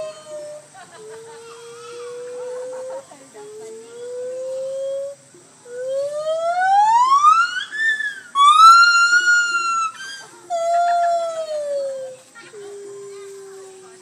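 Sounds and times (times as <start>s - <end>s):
gibbon howling: 0.0s - 13.8s.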